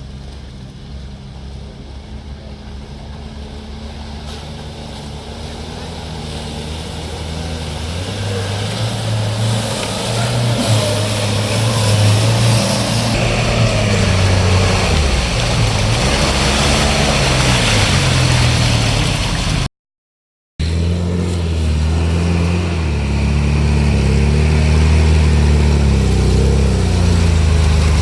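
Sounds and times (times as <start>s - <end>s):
off-road vehicle engine: 0.0s - 19.7s, 20.6s - 28.0s
tyres on ground: 0.0s - 19.7s, 20.6s - 28.0s.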